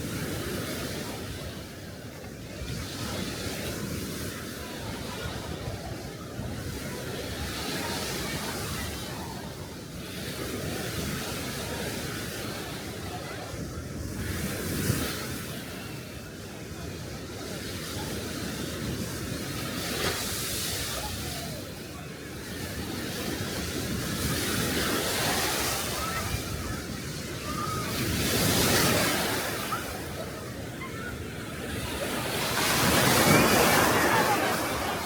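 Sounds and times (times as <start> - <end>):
waves washing on shore: 0.0 - 35.0.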